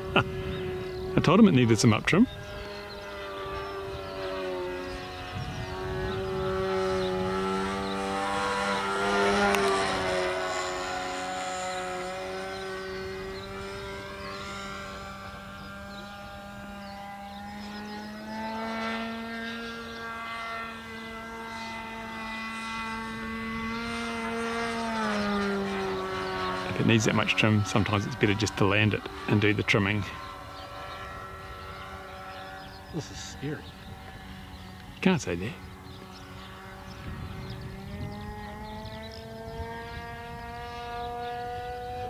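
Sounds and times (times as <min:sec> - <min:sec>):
model aeroplane motor droning: 0:00.0 - 0:42.0.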